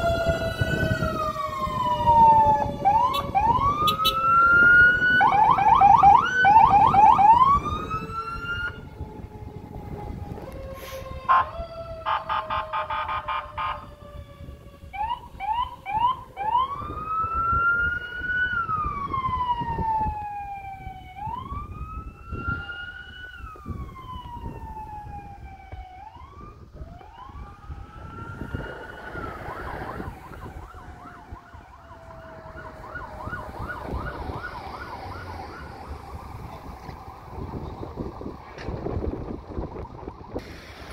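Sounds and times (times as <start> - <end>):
fire engine siren wailing: 0.0 - 40.9.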